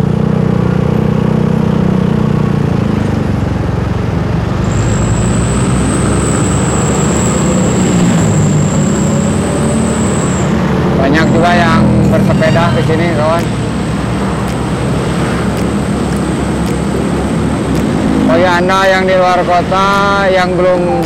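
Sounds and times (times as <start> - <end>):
motorcycle engine running: 0.0 - 20.4
road traffic: 0.0 - 21.0
high-pitched whine: 4.0 - 21.0.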